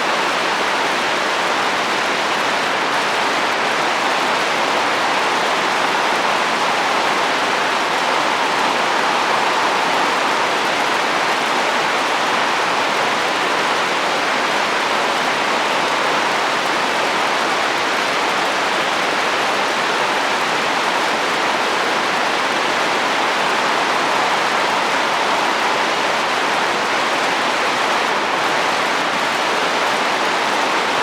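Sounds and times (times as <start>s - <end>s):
rain falling on a roof: 0.0s - 31.0s.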